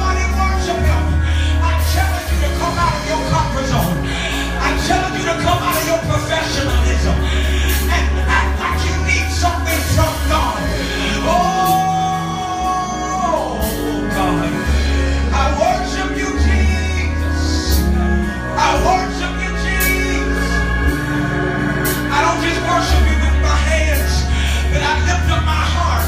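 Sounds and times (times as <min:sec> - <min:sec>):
gospel band playing: 0:00.0 - 0:26.0.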